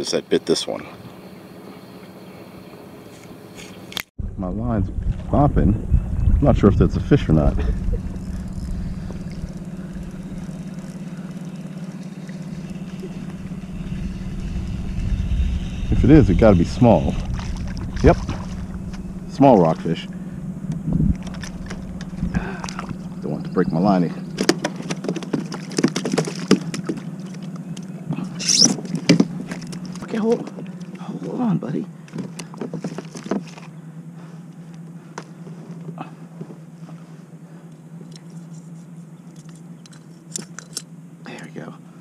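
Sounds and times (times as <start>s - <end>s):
low motor hum: 0.9s - 42.0s
faint water sounds: 6.5s - 42.0s.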